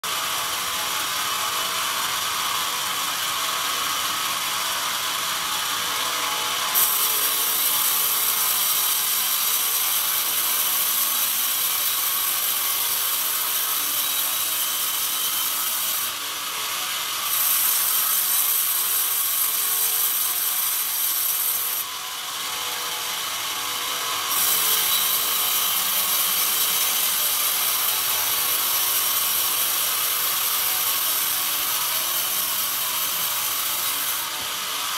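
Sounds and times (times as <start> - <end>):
band saw cutting log: 0.0 - 34.9.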